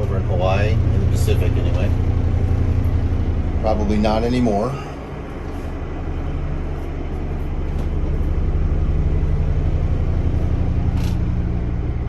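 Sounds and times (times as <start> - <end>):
large engine droning: 0.0 - 12.0.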